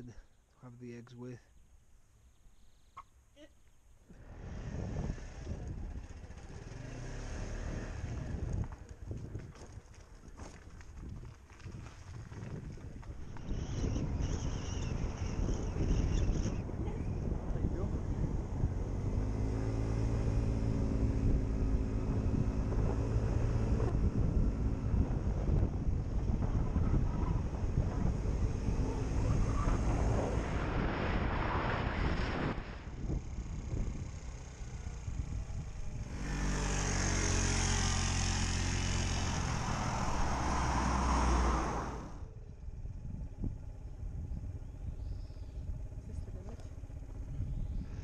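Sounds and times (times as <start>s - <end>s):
wind noise on microphone: 4.1s - 48.0s
motorbike engine running: 4.2s - 30.1s, 32.8s - 40.3s, 42.2s - 48.0s.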